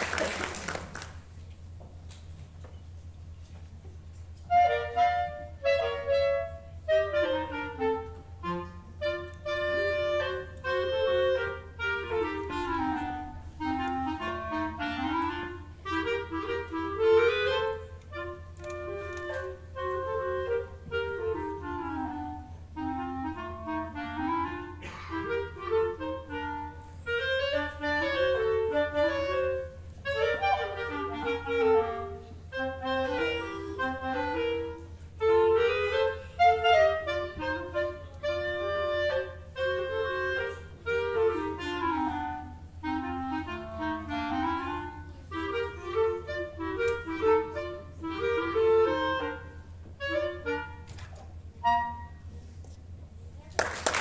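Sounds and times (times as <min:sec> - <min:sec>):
clarinet duet: 0:02.0 - 0:54.0.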